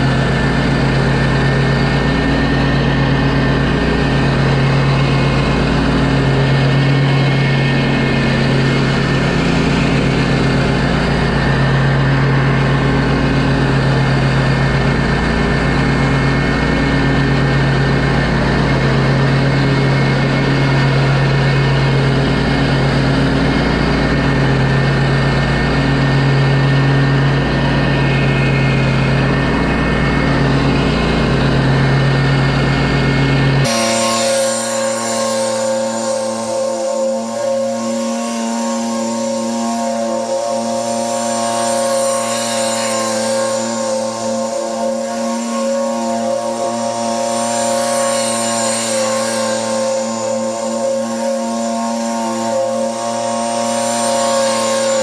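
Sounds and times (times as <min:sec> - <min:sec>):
mower engine droning: 0:00.0 - 0:55.0.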